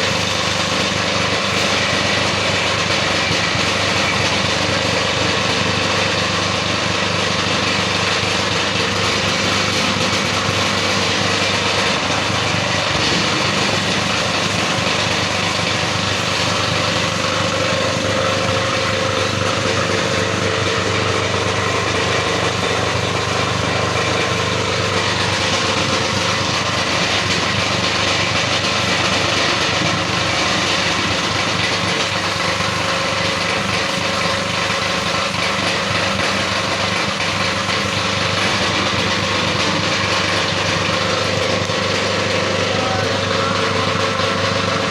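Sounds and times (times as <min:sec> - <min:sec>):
plastic grinder machine running: 0:00.0 - 0:44.9.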